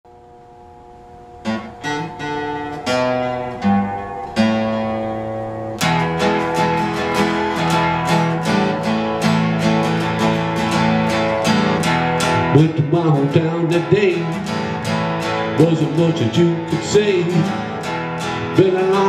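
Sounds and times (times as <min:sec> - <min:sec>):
acoustic guitar strumming: 0:00.1 - 0:19.0.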